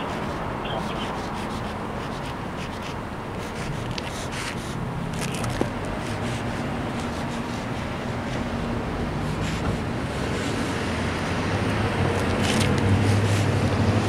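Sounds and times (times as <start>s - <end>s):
traffic engine hum: 0.0s - 14.0s.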